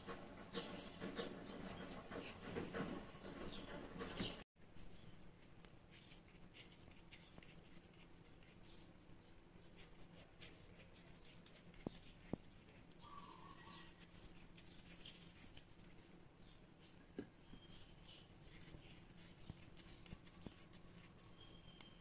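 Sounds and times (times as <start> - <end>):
hands rubbing dough: 0.0 - 4.5, 5.1 - 22.0.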